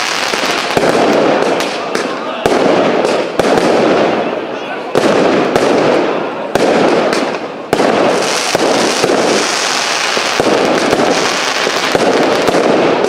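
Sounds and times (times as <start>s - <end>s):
crackling firework bursts: 0.0s - 13.0s
fireworks bursting: 0.0s - 13.0s
sharp firework bangs: 0.0s - 13.0s.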